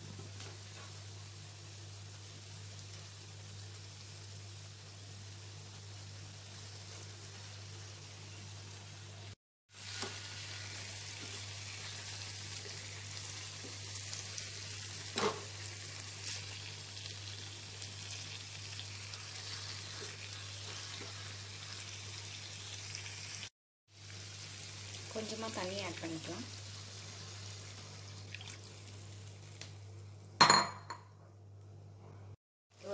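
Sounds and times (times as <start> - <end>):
chicken sizzling in a pan: 0.0 - 30.2.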